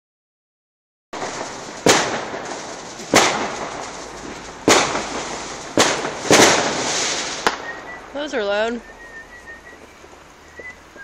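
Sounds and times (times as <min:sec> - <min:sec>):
fireworks bangs: 0:01.2 - 0:11.0
fireworks hiss and crackle: 0:01.2 - 0:11.0.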